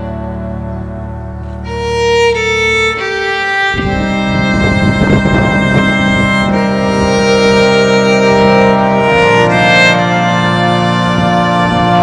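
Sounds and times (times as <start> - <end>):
slow melody over low tones: 0.0 - 12.0.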